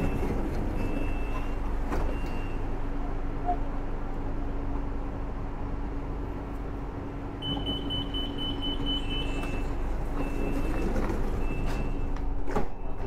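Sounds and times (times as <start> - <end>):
train pulling in: 0.0 - 13.0.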